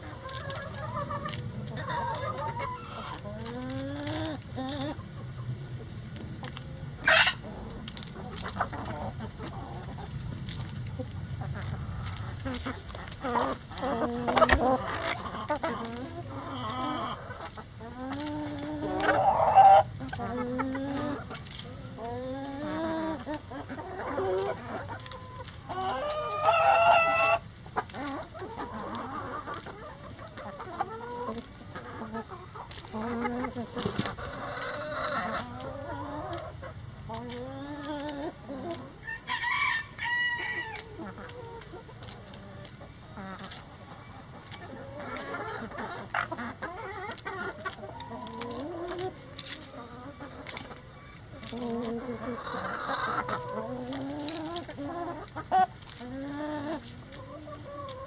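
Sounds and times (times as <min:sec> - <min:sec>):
chickens clucking and calling: 0:00.0 - 0:58.0.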